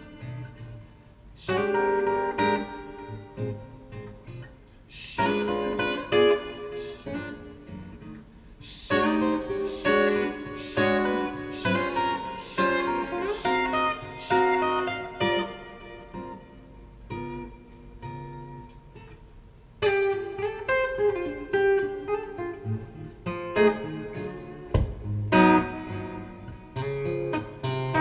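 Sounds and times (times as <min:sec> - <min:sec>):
jazz guitar over loudspeakers: 0:00.0 - 0:28.0.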